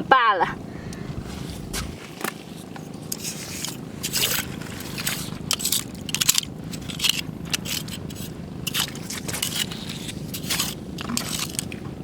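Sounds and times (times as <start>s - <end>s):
crunching and scraping on stones: 0.9s - 12.0s.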